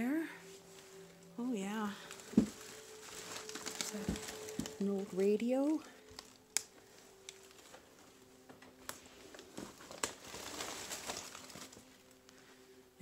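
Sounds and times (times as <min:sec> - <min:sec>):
faint steady hum: 0:00.0 - 0:13.0
rustling and crinkling: 0:00.3 - 0:12.8.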